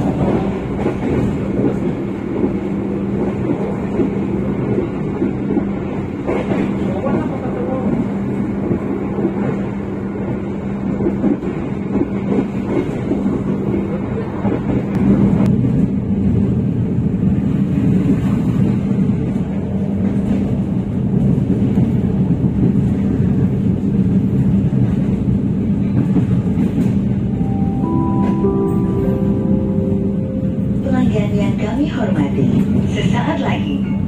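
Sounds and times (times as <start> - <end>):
train hum: 0.0 - 34.0
train wheels rumbling on track: 0.0 - 34.0.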